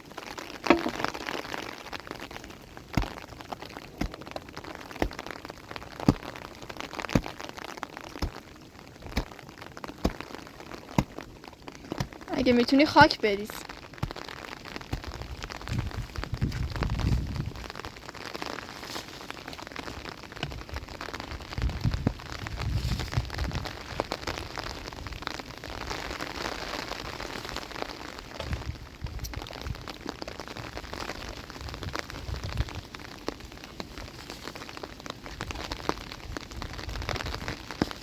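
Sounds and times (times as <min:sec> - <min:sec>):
rain pattering: 0:00.0 - 0:38.0.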